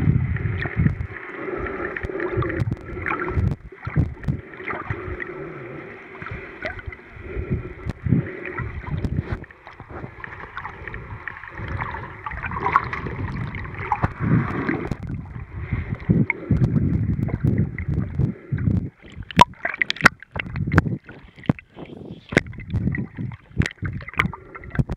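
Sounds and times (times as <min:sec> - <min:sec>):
underwater gurgling: 0:00.0 - 0:24.9
sharp clicks and pops: 0:00.5 - 0:01.2, 0:02.0 - 0:05.2, 0:07.8 - 0:10.7, 0:11.6 - 0:24.9.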